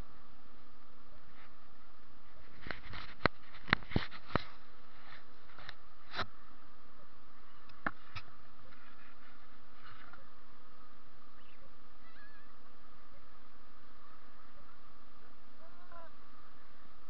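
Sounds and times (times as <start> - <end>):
electrical buzzing hum: 0.0 - 17.0.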